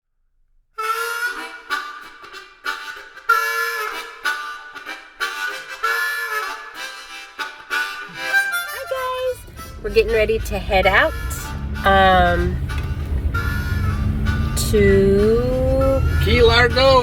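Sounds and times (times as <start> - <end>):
harmonica chordal phrases: 0.8 - 17.0.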